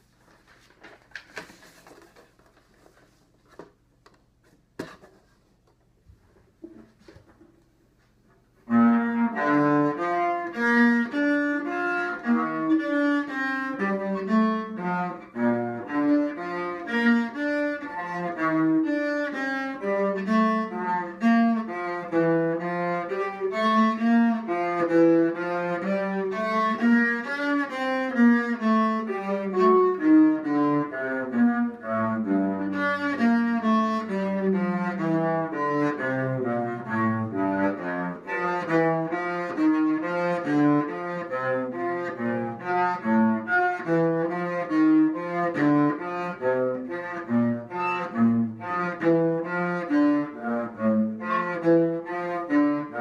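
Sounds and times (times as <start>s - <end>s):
bowed cello: 8.6s - 53.0s.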